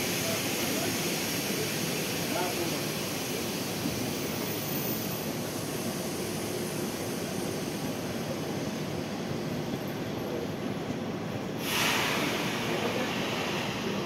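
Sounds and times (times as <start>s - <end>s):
electric trains rushing drone: 0.0s - 14.0s.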